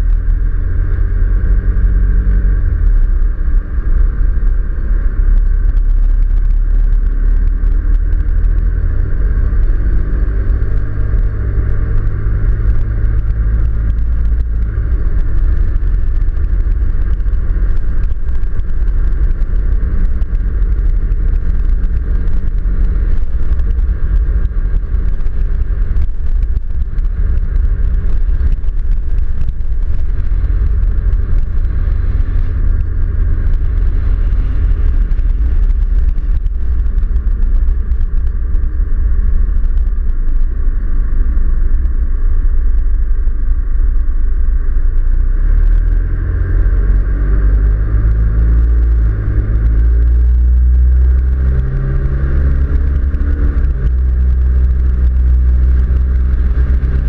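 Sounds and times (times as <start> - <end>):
tyres on dirt road: 0.0 - 57.0
vehicle engine rumble: 0.0 - 57.0.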